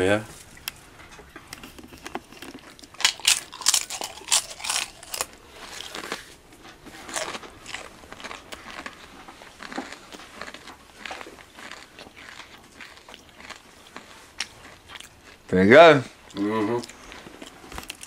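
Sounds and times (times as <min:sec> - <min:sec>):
tortilla chip crunching: 0:01.5 - 0:18.0.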